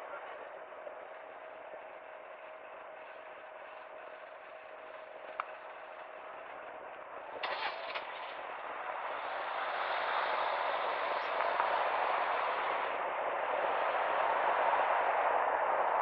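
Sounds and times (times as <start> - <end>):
car driving in traffic: 0.0 - 16.0.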